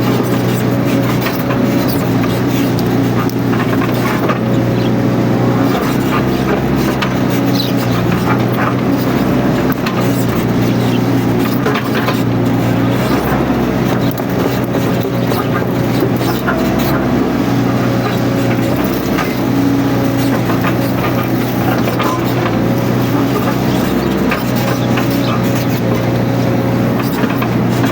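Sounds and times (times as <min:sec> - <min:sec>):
diesel excavator engine running: 0:00.0 - 0:27.9.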